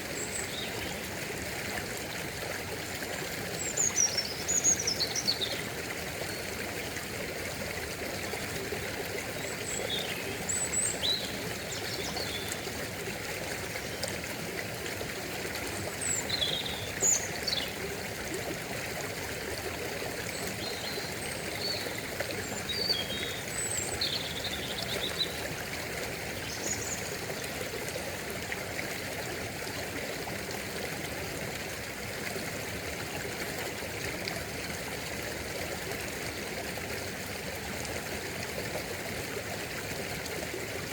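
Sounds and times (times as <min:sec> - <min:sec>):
stream water trickling: 0:00.0 - 0:40.9.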